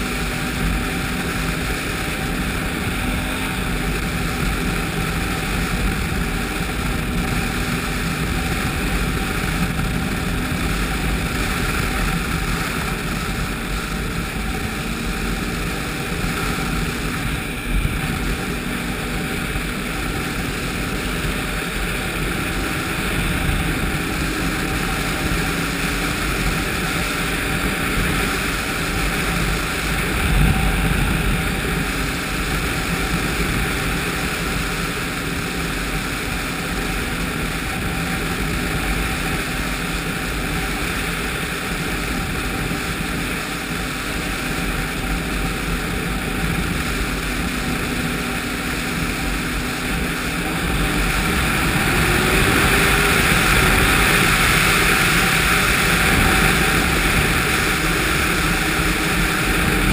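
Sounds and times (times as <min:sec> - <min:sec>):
snowmobile engine running: 0:00.0 - 0:59.9
wind rushing over microphone: 0:00.0 - 0:59.9.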